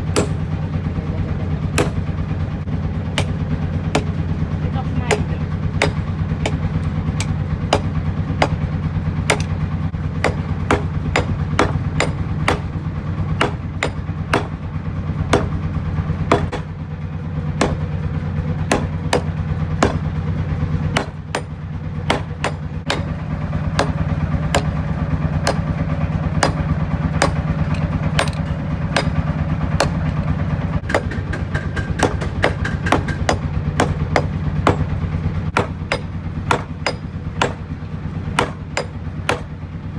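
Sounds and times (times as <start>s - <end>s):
hammer striking hot metal: 0.0s - 0.6s, 1.7s - 2.2s, 3.1s - 4.4s, 5.1s - 9.6s, 10.2s - 14.7s, 15.3s - 16.8s, 17.6s - 20.2s, 20.9s - 30.2s, 30.8s - 39.5s
steady low hum: 0.0s - 39.9s.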